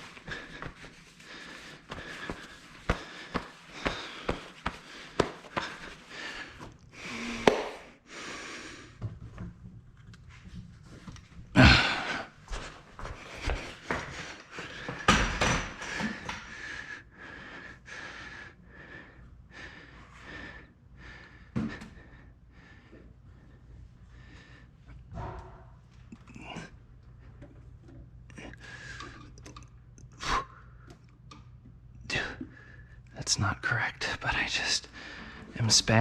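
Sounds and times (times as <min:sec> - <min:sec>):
heavy breathing: 0:00.0 - 0:09.0, 0:11.6 - 0:25.2, 0:26.1 - 0:31.0, 0:34.0 - 0:36.0.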